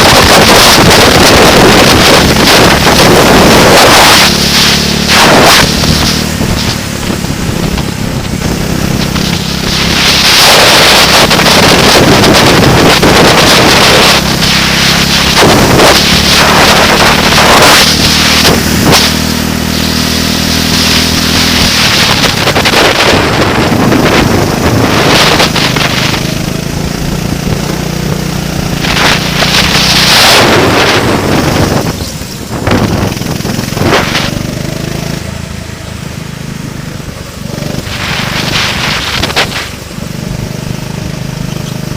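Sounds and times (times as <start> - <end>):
racing engine running: 0.0 - 41.9
wind buffeting microphone: 0.0 - 41.9.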